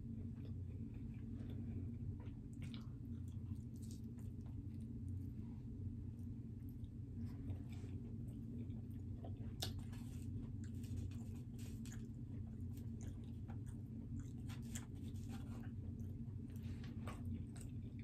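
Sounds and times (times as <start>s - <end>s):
low steady hum: 0.0s - 18.0s
person chewing with mouth smacks: 0.2s - 4.9s, 6.6s - 18.0s.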